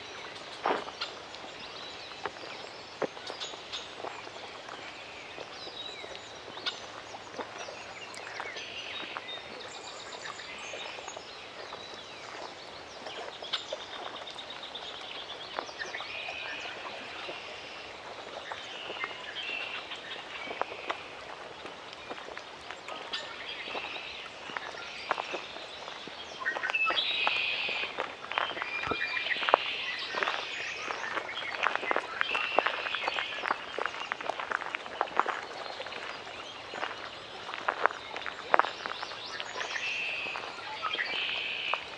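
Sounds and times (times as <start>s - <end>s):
small birds chirping and trilling: 0.0s - 41.9s.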